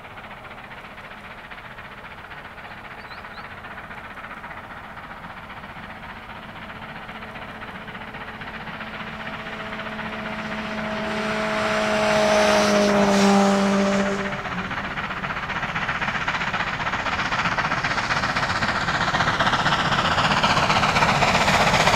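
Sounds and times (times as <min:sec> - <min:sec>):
steam locomotive exhaust: 0:00.0 - 0:21.9.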